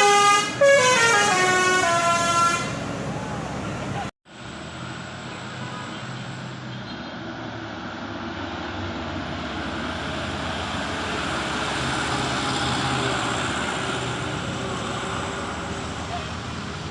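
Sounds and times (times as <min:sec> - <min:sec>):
large vehicle passing: 0:02.3 - 0:16.9.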